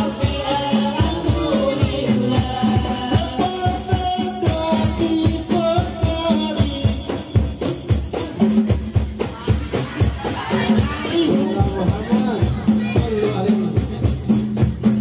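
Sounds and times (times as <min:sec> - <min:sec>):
frame drums beating with jingles: 0:00.0 - 0:15.0
people singing: 0:00.0 - 0:15.0.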